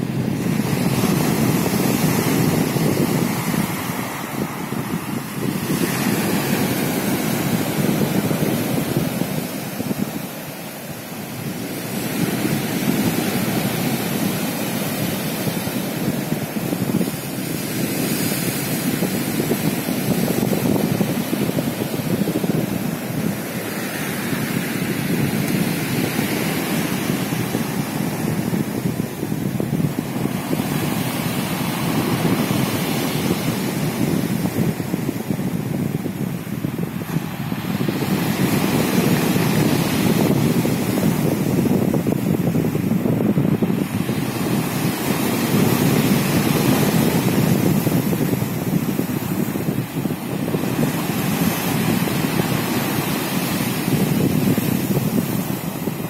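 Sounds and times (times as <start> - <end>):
wind buffeting the microphone: 0.0 - 56.0.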